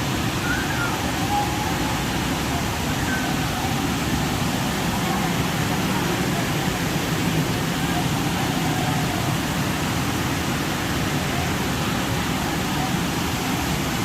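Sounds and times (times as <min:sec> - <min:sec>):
large waterfall rushing: 0:00.0 - 0:14.0.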